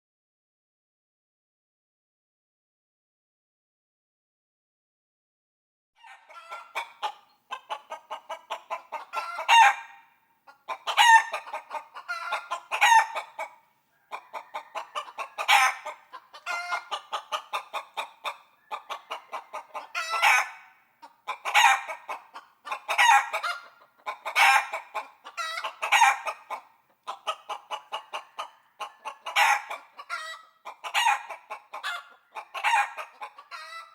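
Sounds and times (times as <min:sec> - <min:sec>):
chickens clucking: 0:06.0 - 0:33.9.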